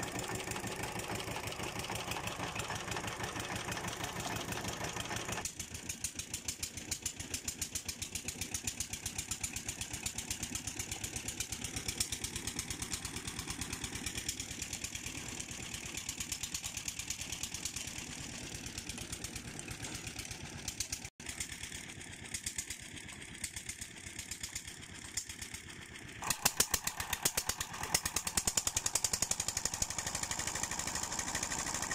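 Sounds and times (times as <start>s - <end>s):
winch engine running: 0.0s - 31.9s.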